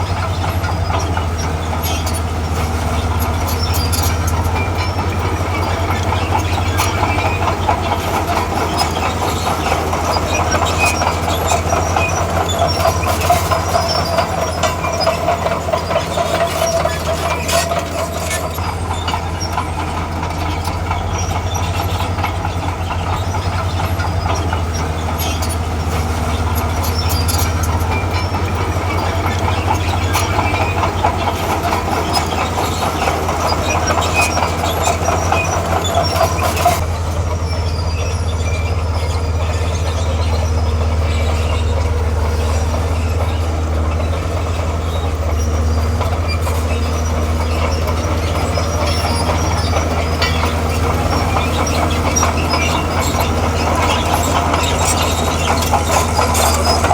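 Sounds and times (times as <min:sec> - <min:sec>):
earthmover diesel engine running: 0:00.0 - 0:56.9
steel track chains clanking: 0:00.0 - 0:56.9.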